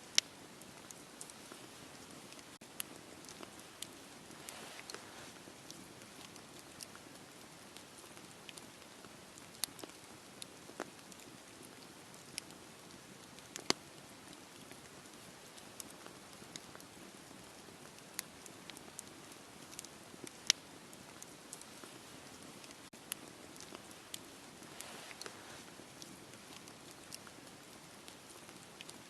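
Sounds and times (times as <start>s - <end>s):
wood fire crackling: 0.0s - 29.0s
sharp pops and snaps: 0.1s - 29.0s.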